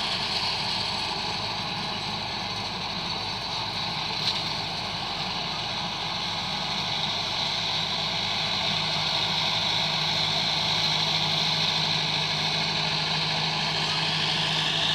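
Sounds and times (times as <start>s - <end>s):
rotary tiller in soil: 0.0s - 14.9s
tractor diesel engine under load: 0.0s - 14.9s.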